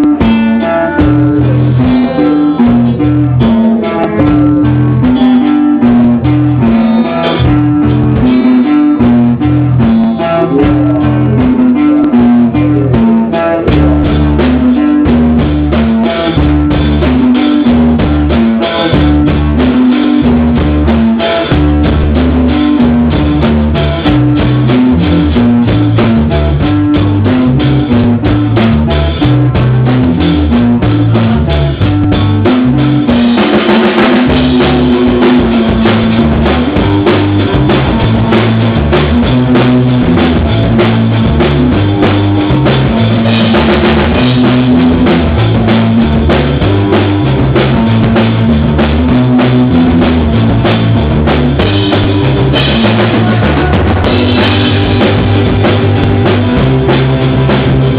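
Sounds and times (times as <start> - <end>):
drum kit: 0.0 - 57.9
loud rock music: 0.0 - 57.9
stepping bass line: 0.0 - 57.9.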